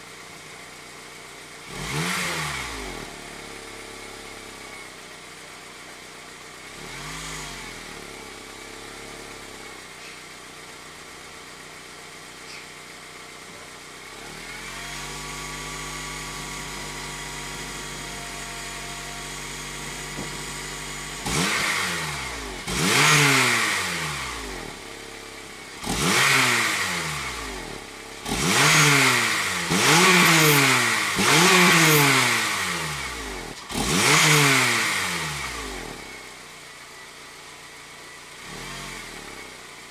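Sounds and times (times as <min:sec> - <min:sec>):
car engine idling: 0:00.0 - 0:01.8, 0:02.8 - 0:06.8, 0:07.5 - 0:26.1, 0:26.8 - 0:34.1, 0:34.8 - 0:39.9
engine revving with throttle blips: 0:01.6 - 0:05.0, 0:06.6 - 0:11.1, 0:14.0 - 0:39.9.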